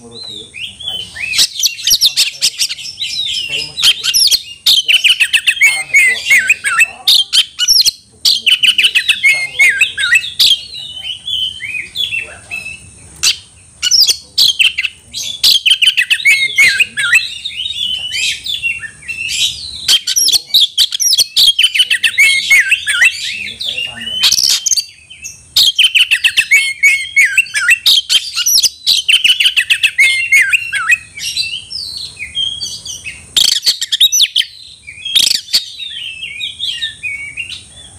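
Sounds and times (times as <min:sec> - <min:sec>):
bird singing varied whistles: 0:00.0 - 0:37.9.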